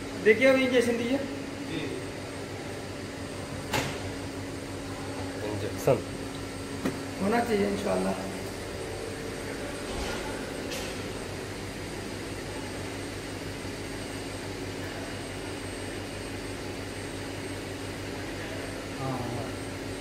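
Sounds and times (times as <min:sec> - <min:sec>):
test set hum and fan whir: 0:00.0 - 0:20.0.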